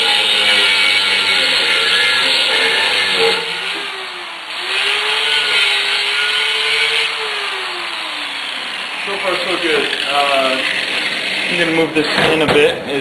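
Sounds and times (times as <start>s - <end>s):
angle grinder cutting steel: 0.0s - 12.2s.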